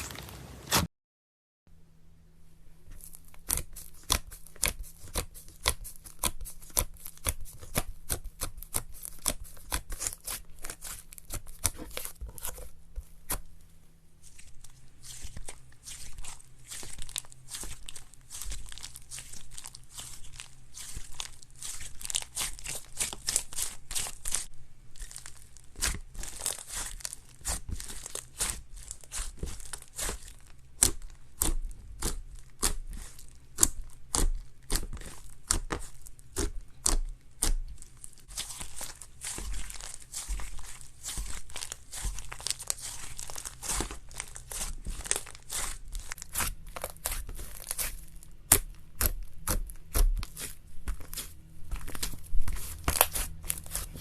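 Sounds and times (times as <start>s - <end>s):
slime squeezed crackling: 3.0s - 13.5s, 14.2s - 54.0s.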